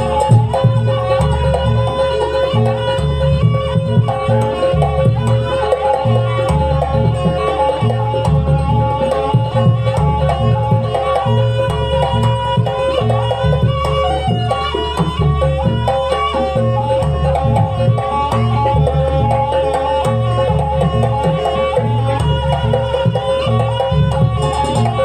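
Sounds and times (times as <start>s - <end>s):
drums keeping steady beat: 0.0s - 25.0s
shifting melody line: 0.0s - 25.0s.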